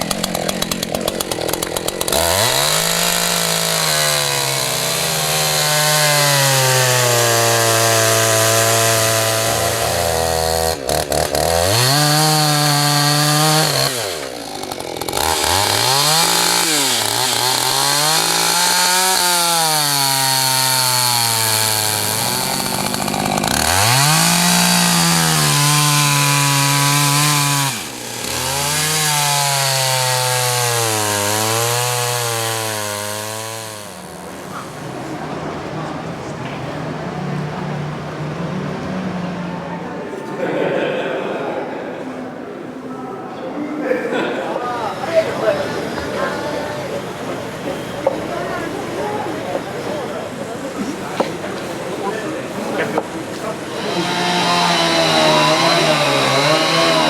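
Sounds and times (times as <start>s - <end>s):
chainsaw running at high revs: 0.0s - 35.2s, 44.9s - 57.0s.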